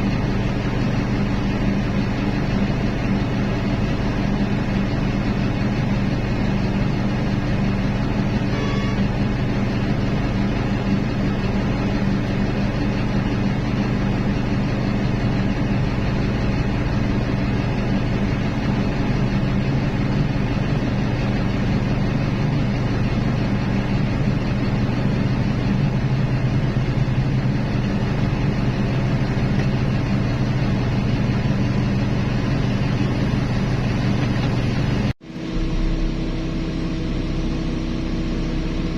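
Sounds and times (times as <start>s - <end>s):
heavy diesel engines droning: 0.0s - 38.9s.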